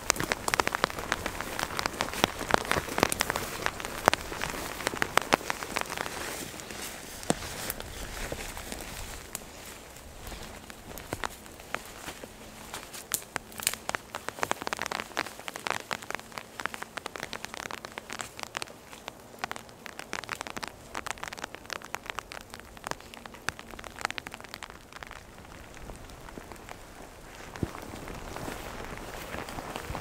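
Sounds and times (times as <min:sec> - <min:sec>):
rain hiss: 0:00.0 - 0:30.0
raindrop taps: 0:00.0 - 0:30.0.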